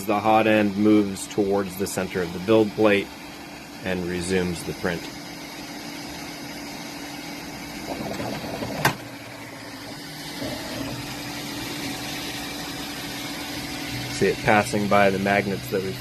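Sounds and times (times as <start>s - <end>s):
printer fan hum: 0.0s - 16.0s
stepper motors whirring: 0.0s - 16.0s.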